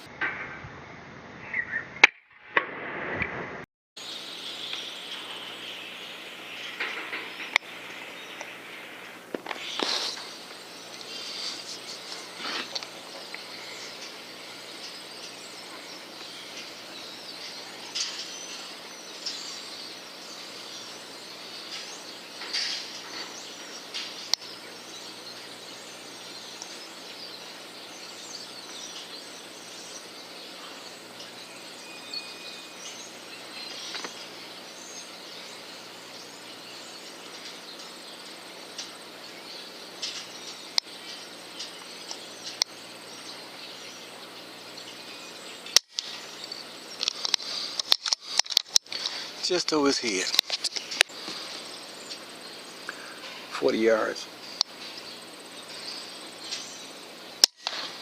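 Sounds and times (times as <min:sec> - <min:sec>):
birds chirping: 0:00.8 - 0:02.1, 0:04.0 - 0:58.0
insects: 0:04.0 - 0:58.0.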